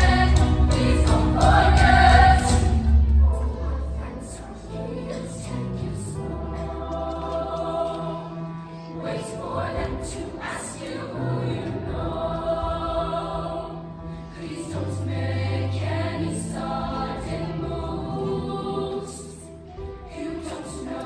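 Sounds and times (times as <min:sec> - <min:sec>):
choir singing sustained notes: 0:00.0 - 0:21.0.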